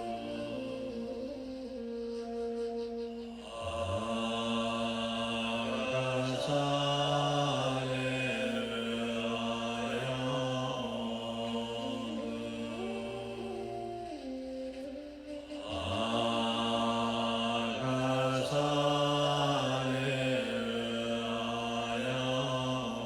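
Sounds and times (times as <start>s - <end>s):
low sustained drone: 0.0s - 23.0s
mantra chanting: 0.0s - 23.0s.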